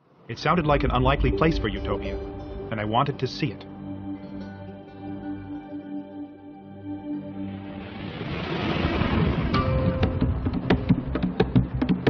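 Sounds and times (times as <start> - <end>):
ambient background music: 0.0 - 12.0.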